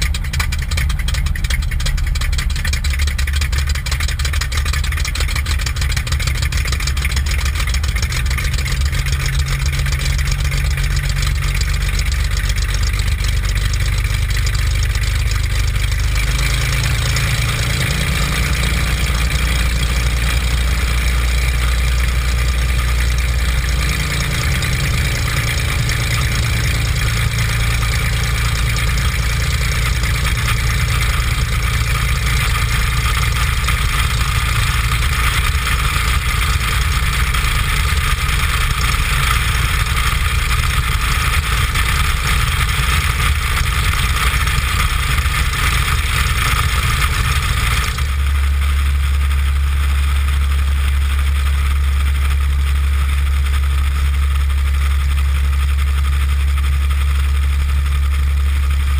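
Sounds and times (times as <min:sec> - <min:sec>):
propeller aircraft engine droning: 0:00.0 - 0:58.9.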